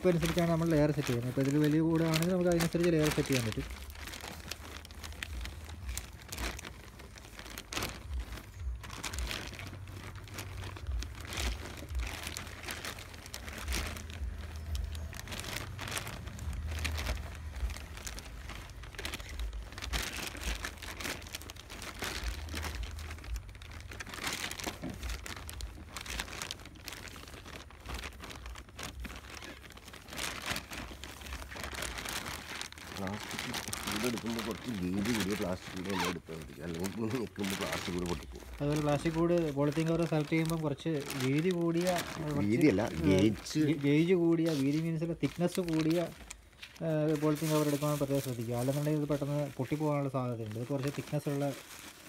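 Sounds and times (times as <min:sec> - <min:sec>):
plastic bag crinkling: 0:00.0 - 0:52.0
straw rustling: 0:00.0 - 0:52.0.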